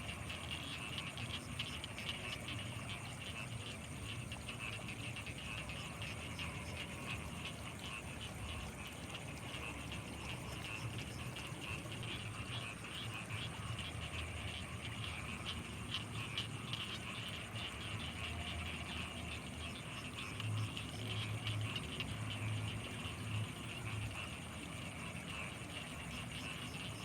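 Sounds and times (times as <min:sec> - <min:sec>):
frogs pulsing calls: 0:00.0 - 0:27.0
insects chirring: 0:00.0 - 0:27.0.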